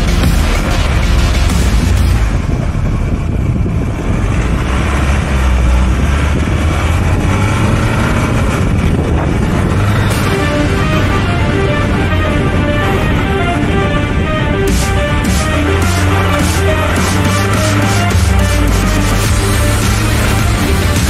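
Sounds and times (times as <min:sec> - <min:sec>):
road and tyre noise: 0:00.0 - 0:21.0
vehicle engine rumbling: 0:00.0 - 0:21.0.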